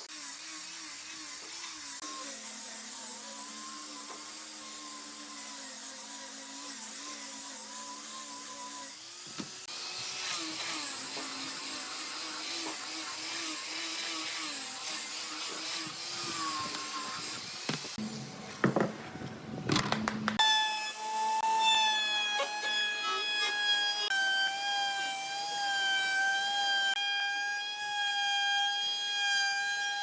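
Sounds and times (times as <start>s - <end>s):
electric power tool whining: 0.0s - 27.4s.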